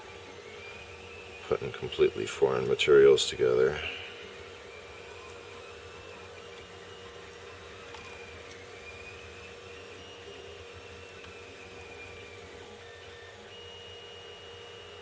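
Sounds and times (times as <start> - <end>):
faint high whines: 0.0 - 15.0
three d printer humming: 0.0 - 15.0.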